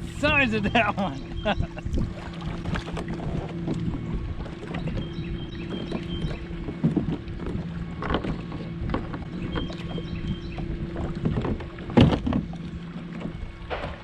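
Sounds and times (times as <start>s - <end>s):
wind on microphone: 0.0s - 12.6s
low hum: 0.0s - 14.0s.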